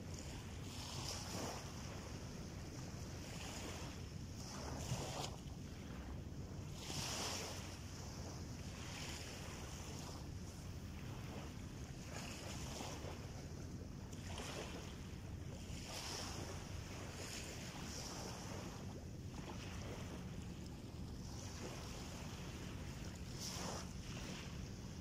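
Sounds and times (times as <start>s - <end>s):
small waves washing onto sand: 0.0s - 25.0s.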